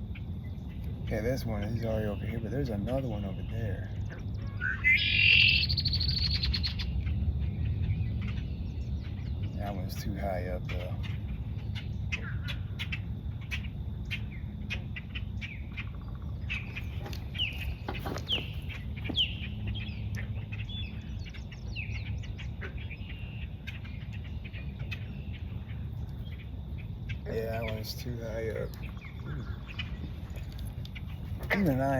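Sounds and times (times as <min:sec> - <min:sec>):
birds chirping: 0:00.0 - 0:31.9
low rumble: 0:05.6 - 0:31.9.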